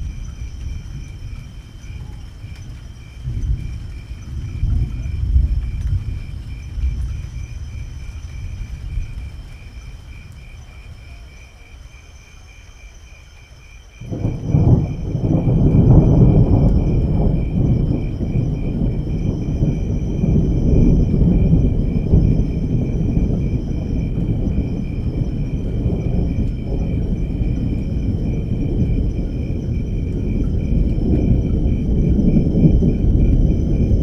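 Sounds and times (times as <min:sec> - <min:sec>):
thunder clap: 0:00.0 - 0:12.0, 0:13.9 - 0:34.0
thunder rumbling: 0:00.0 - 0:34.0.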